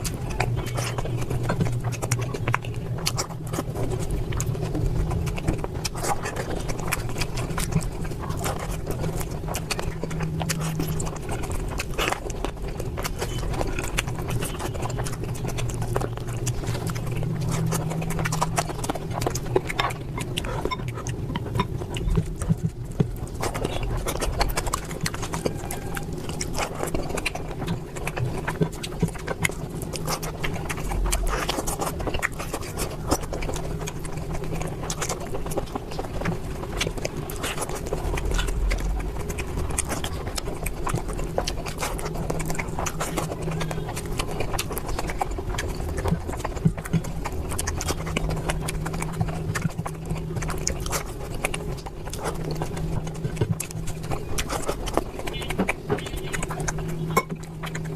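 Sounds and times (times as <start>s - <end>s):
low steady hum: 0.0s - 57.9s
wet chewing and mouth smacking: 0.0s - 57.9s.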